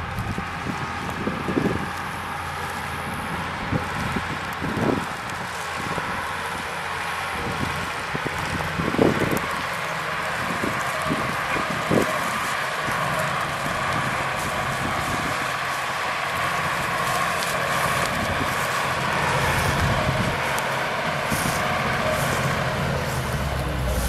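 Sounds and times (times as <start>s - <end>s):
combine harvester drone: 0.0s - 24.0s.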